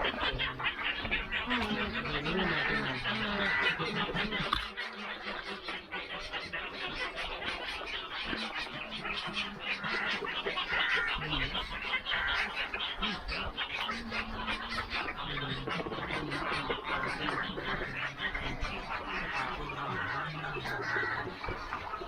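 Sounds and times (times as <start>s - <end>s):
low voices: 0.0s - 22.0s
waterbirds calling: 0.0s - 22.0s.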